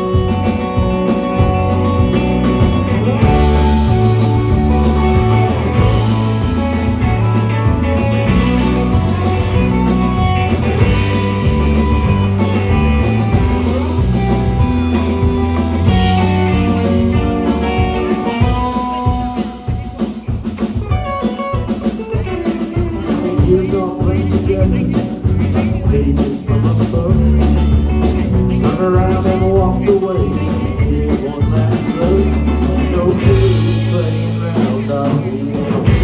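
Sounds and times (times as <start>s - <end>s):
band playing blues rock: 0.0s - 36.0s.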